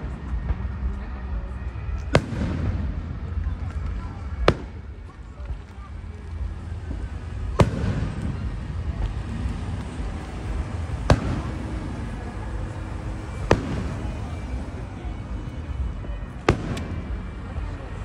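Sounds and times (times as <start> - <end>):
fireworks bangs: 0.0 - 18.0
steady low rumble: 0.0 - 18.0.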